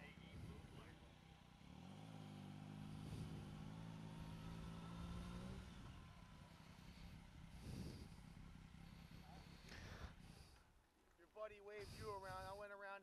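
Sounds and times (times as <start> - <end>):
motorcycle engine at low revs: 0.0 - 10.8.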